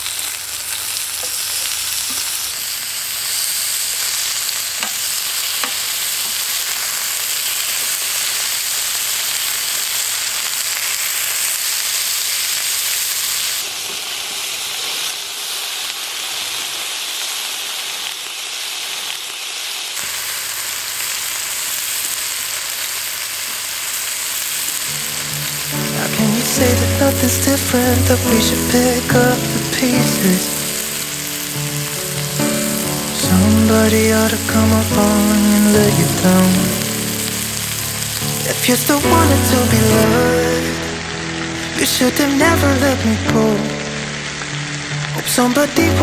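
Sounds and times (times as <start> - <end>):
meat sizzling on a griddle: 0.0 - 46.0.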